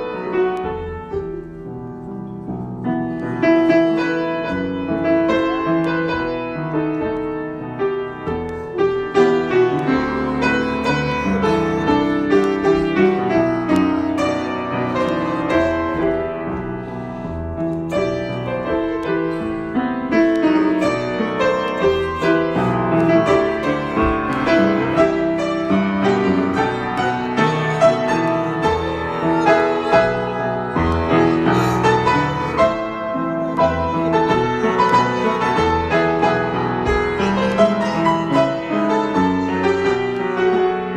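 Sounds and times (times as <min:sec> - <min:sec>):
solo piano playing: 0:00.0 - 0:40.9.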